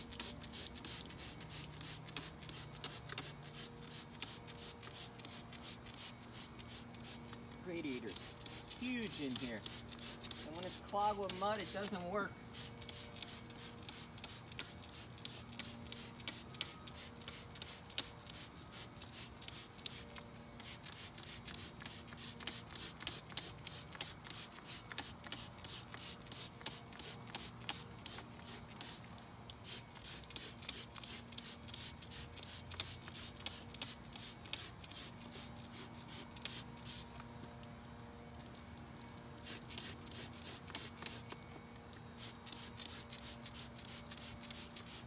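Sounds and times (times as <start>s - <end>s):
spray bottle squirting: 0.0s - 7.2s, 8.1s - 11.9s, 12.5s - 37.1s, 39.4s - 41.4s, 42.2s - 45.0s.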